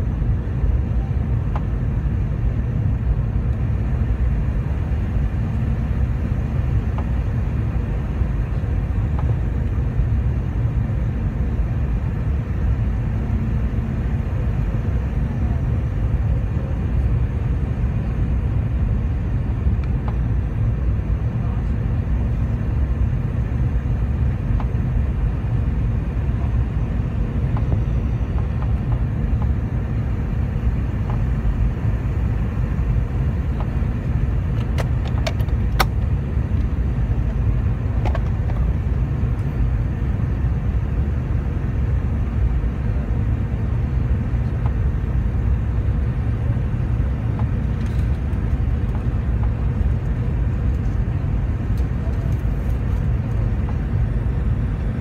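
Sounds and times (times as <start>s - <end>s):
aircraft cabin engine rumble: 0.0s - 55.0s
faint steady hum: 0.0s - 55.0s.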